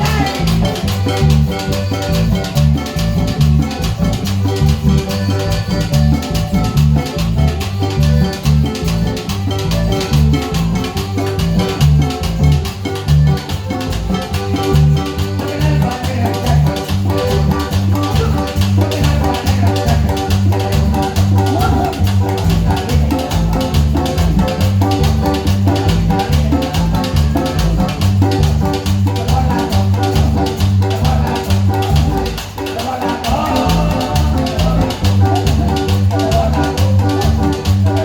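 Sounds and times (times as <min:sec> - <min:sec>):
bass line: 0:00.0 - 0:38.0
plucked guitar: 0:00.0 - 0:38.0.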